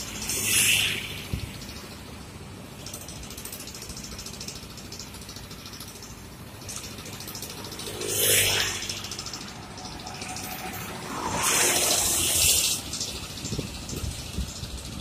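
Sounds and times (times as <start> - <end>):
steady traffic hum: 0.0 - 15.0
vehicles passing close by: 0.0 - 15.0.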